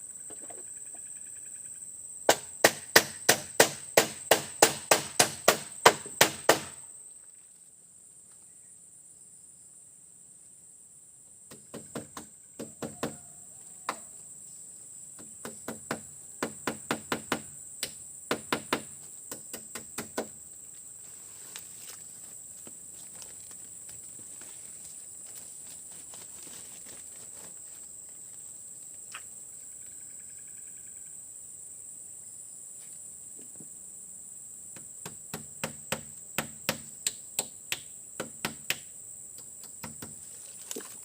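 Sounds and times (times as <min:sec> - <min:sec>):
high insect drone: 0:00.0 - 0:41.0.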